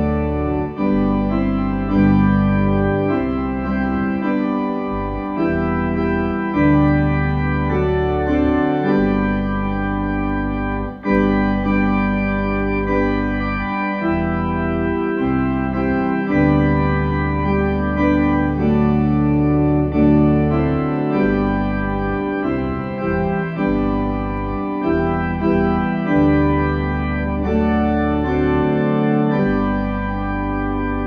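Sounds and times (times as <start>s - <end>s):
organ playing chords: 0.0s - 31.0s.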